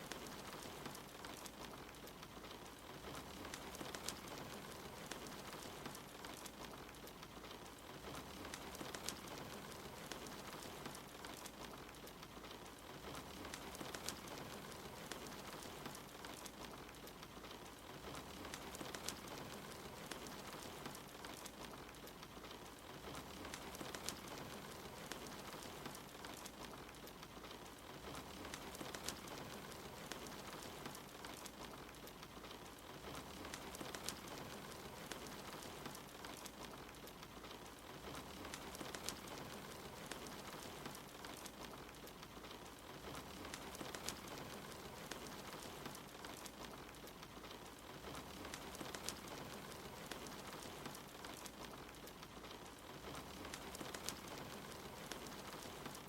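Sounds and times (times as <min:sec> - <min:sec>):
steady rain falling: 0:00.0 - 0:56.0
wood fire crackling: 0:00.0 - 0:56.0.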